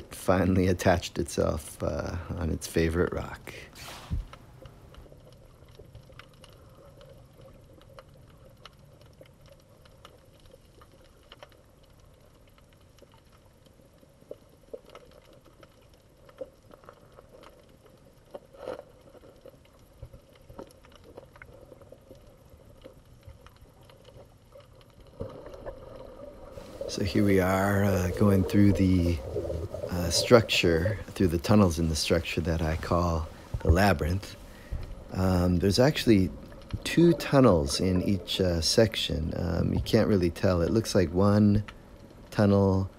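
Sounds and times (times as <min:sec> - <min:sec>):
low underwater hum: 0:00.0 - 0:42.9
small clicks and ticks: 0:04.2 - 0:42.9.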